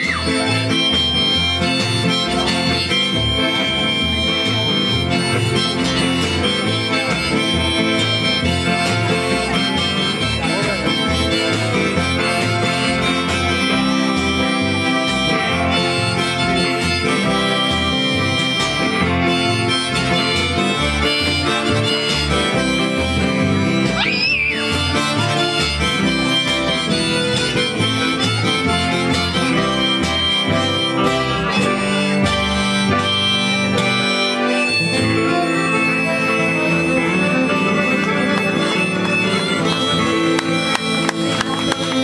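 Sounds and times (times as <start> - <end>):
accordion melody: 0.0 - 42.0
electric guitar: 0.0 - 42.0
strummed acoustic guitar: 0.0 - 42.0.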